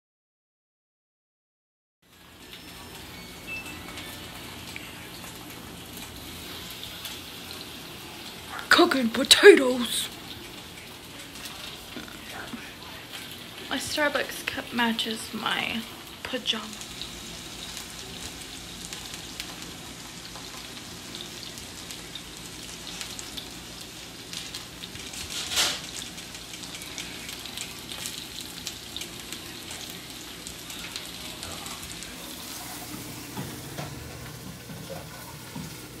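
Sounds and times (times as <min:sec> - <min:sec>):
potatoes sizzling in a pan: 0:02.0 - 0:36.0.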